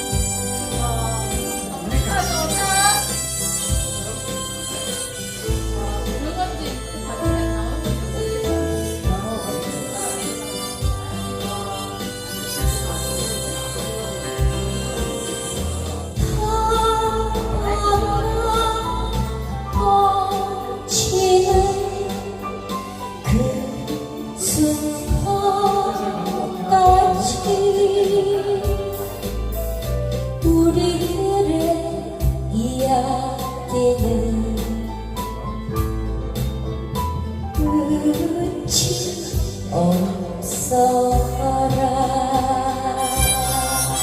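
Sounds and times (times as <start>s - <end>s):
woman singing with vibrato: 0.0s - 29.6s, 30.4s - 35.2s, 37.6s - 44.0s
instrumental backing with bass line: 0.0s - 44.0s.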